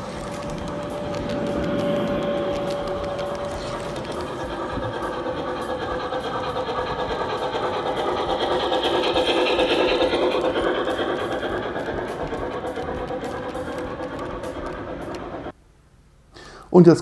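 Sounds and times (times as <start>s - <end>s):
model train motor whirring: 0.0s - 15.5s.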